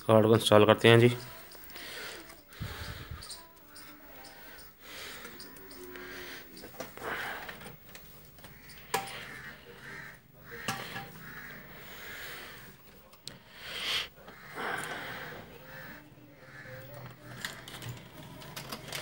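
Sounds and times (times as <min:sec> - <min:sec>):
close breathing: 0:01.2 - 0:17.6.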